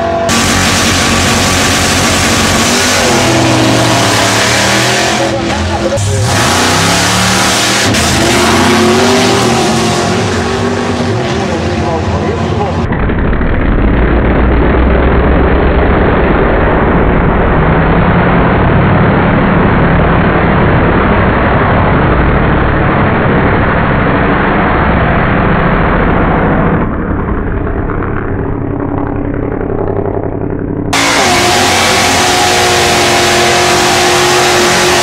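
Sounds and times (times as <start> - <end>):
drag car engines running rough: 0.0 - 35.0.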